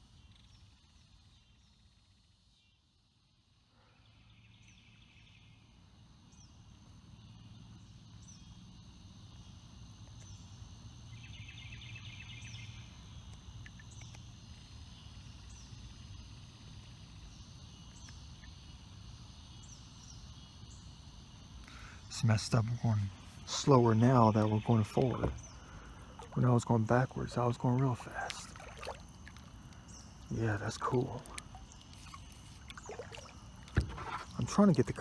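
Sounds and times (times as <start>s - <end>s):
high insect drone: 3.8s - 35.0s.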